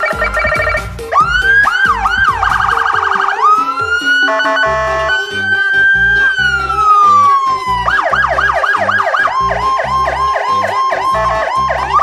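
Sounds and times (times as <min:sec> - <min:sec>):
electronic siren wailing and yelping: 0:00.0 - 0:12.0
steady siren tone: 0:00.0 - 0:12.0.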